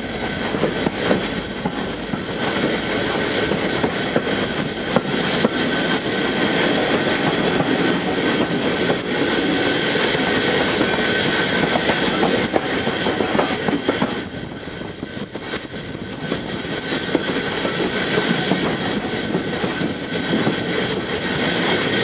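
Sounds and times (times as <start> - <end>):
steam hiss: 0.0 - 22.0
steam train rumbling: 0.0 - 22.0.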